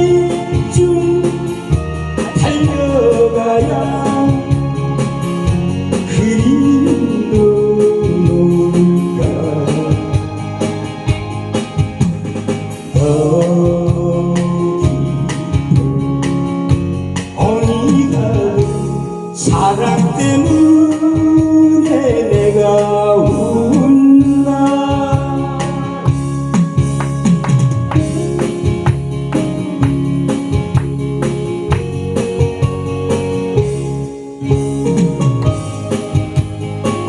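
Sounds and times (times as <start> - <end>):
instrumental backing track: 0.0 - 37.0.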